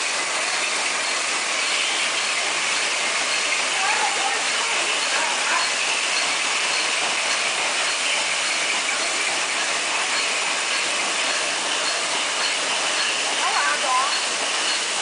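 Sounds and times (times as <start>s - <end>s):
machine clattering: 0.0s - 15.0s.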